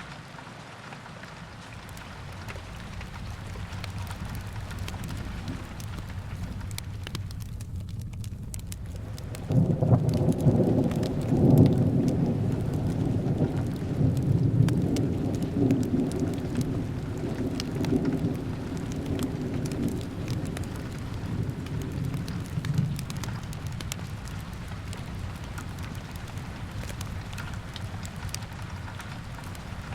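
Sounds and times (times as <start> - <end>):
fireplace crackling: 0.0 - 29.9
steady rain: 0.0 - 29.9
thunder rumbling: 0.0 - 29.9.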